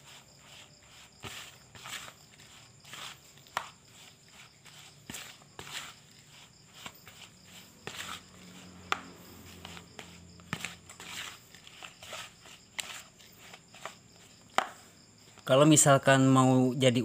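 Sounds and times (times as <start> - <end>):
spoon stirring dry grains: 0.0 - 15.5.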